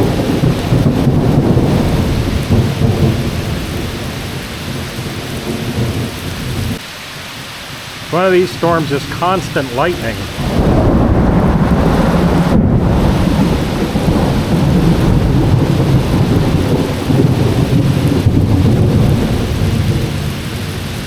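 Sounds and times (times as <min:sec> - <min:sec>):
rolling thunder: 0:00.0 - 0:06.8, 0:10.2 - 0:21.0
heavy rain hiss: 0:00.0 - 0:21.0.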